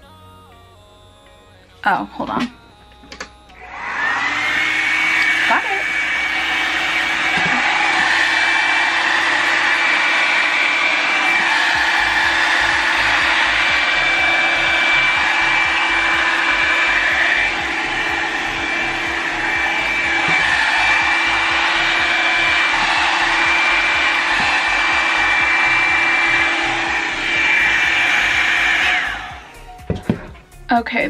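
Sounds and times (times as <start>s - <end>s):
hair dryer blowing with whine: 3.6s - 30.7s.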